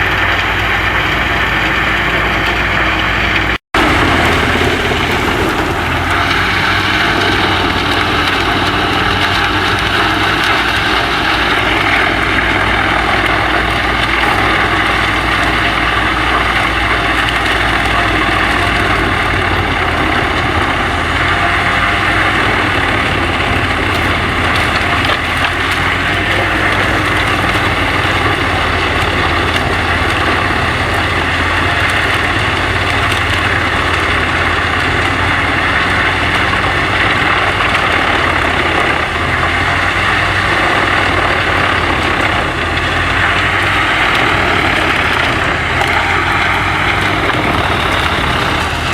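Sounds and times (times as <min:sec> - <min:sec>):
wood chipper running: 0:00.0 - 0:48.9.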